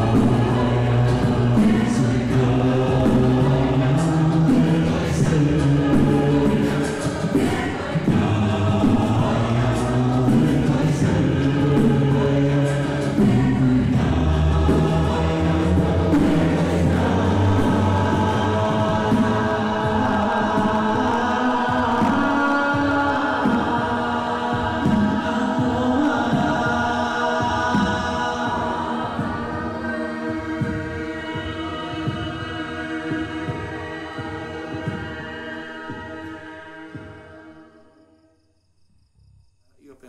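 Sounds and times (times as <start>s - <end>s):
group of voices chanting: 0.0s - 37.6s.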